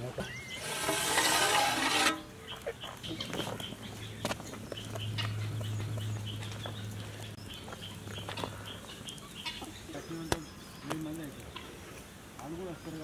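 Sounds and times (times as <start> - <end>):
small birds chirping: 0.0 - 0.9, 2.2 - 13.0.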